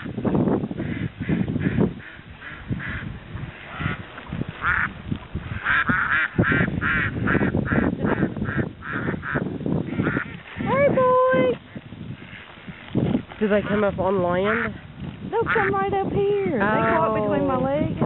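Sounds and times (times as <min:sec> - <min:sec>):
geese honking: 0:00.8 - 0:14.8, 0:15.4 - 0:16.0.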